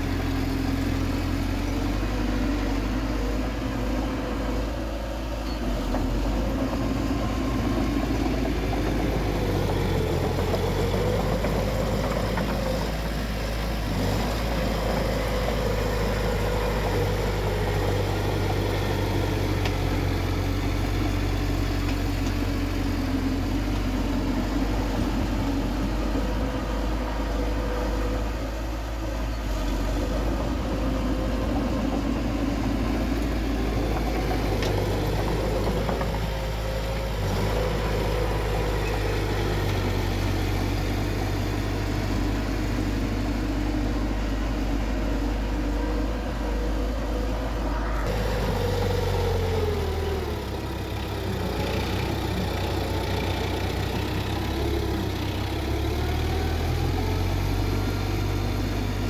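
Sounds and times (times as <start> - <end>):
heavy machine diesel engine running: 0.0 - 59.0.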